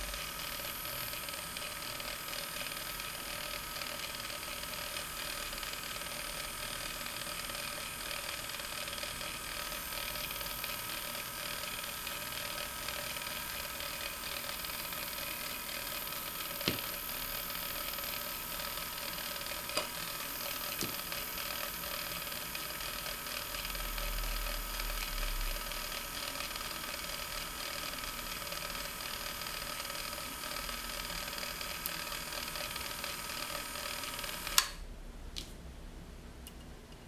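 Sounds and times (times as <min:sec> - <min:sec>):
electric motor whining: 0:00.0 - 0:34.8
cooling fan running: 0:00.0 - 0:37.0.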